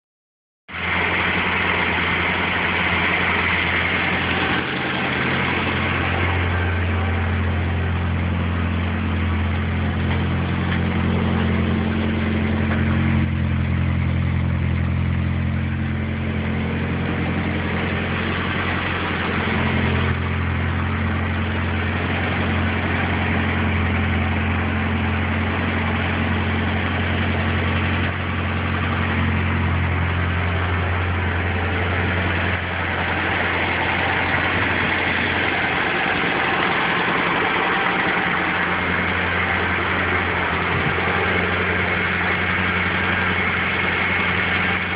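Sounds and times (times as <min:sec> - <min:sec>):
car engine idling: 0:00.7 - 0:44.9.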